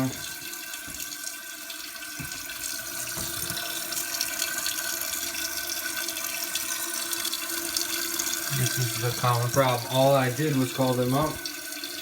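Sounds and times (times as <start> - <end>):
toilet tank refilling: 0.0 - 12.0.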